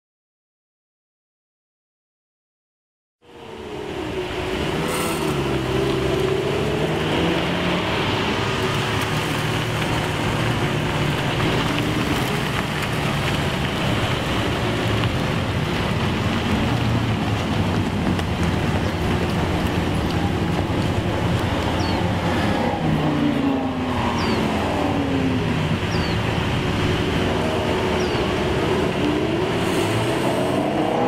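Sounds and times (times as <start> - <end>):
loud sports car engines passing: 3.3 - 31.0.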